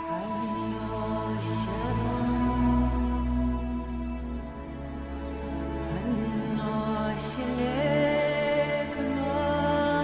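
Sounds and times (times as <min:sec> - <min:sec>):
calm new-age music: 0:00.0 - 0:10.0.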